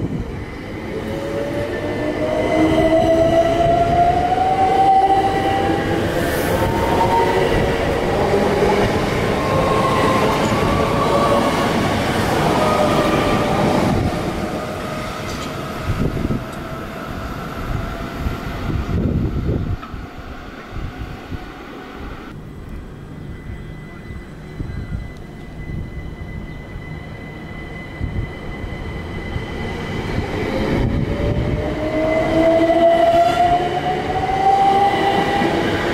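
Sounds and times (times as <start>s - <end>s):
train rumble: 0.0s - 35.9s.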